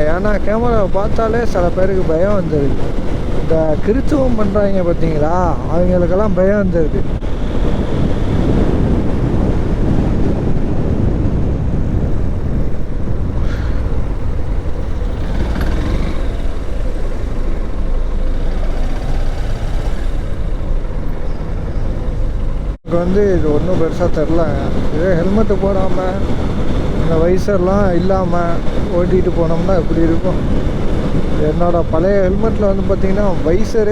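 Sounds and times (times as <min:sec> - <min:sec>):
motorcycle wind and road noise: 0:00.0 - 0:33.9.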